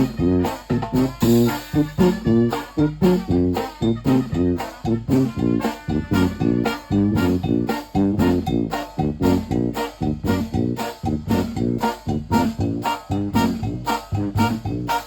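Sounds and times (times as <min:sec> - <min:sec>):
brass band playing upbeat tune: 0:00.0 - 0:15.0.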